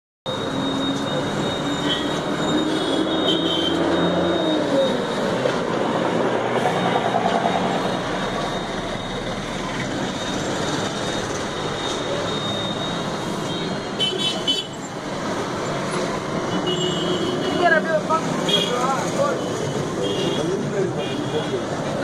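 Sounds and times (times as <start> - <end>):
passing vehicle: 0.3 - 22.0.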